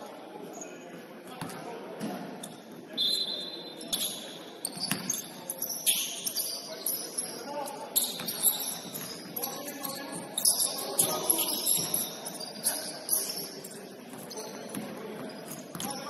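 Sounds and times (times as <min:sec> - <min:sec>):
sneakers squeaking on floor: 0:00.4 - 0:16.0.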